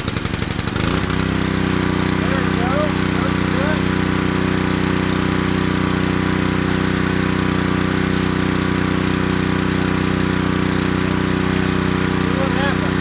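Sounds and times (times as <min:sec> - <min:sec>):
pressure washer engine running: 0:00.0 - 0:13.0.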